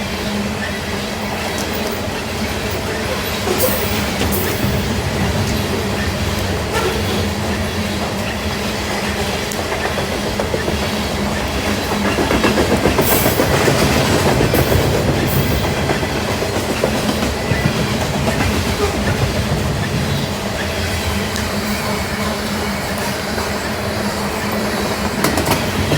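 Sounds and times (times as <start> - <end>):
freight train wheels clicking: 0.0 - 25.9
train rumble: 0.0 - 25.9.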